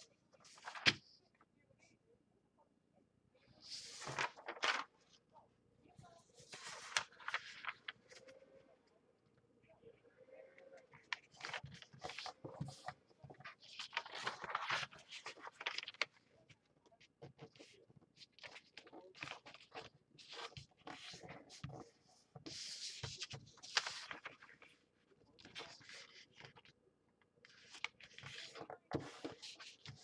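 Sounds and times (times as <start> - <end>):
paper rustling and crinkling: 0.3 - 1.4, 3.5 - 5.2, 6.0 - 8.7, 10.4 - 26.8, 27.4 - 30.0.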